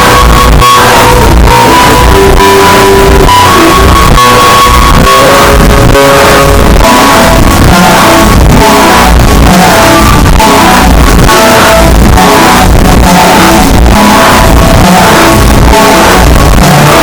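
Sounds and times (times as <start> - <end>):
loud music with pulse: 0.0 - 17.0.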